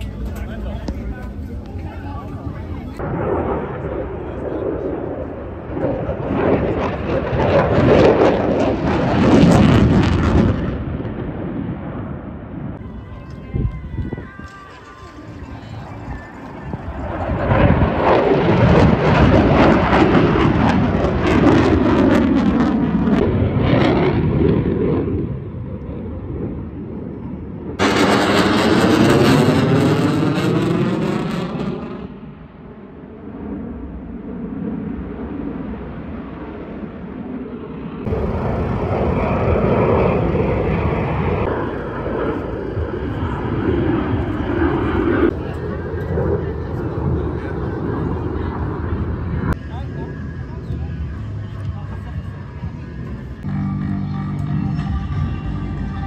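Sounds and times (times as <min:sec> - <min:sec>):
fighter jet engine roar: 0:00.0 - 0:56.0.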